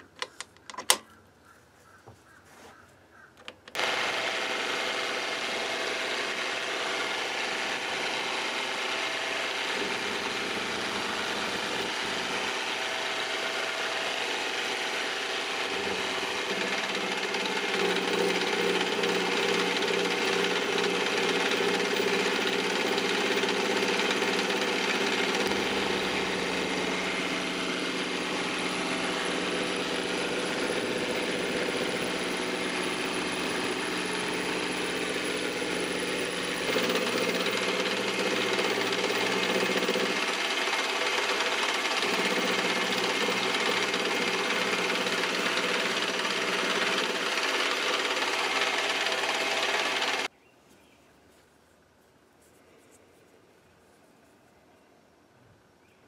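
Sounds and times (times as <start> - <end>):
end mill cutting metal: 3.7 - 50.3
milling machine motor whine: 3.8 - 50.3.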